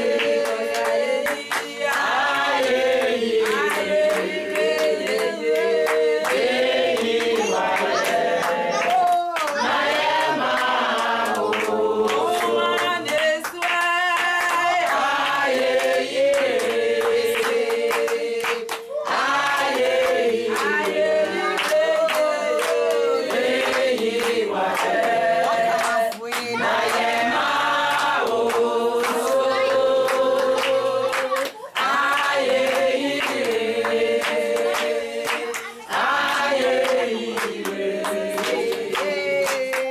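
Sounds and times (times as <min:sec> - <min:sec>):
group of people singing: 0:00.0 - 0:39.9
hands clapping: 0:00.0 - 0:39.9.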